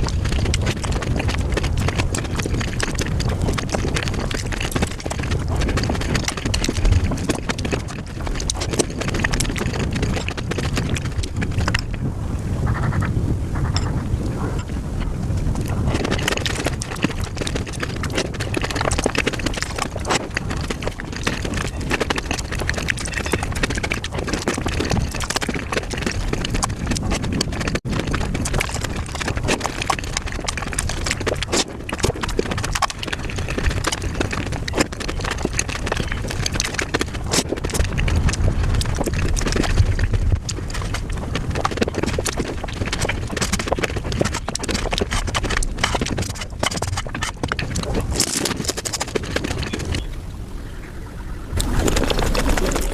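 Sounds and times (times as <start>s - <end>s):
sped-up crunching and chewing: 0.0s - 12.1s, 12.7s - 50.2s, 51.6s - 52.9s.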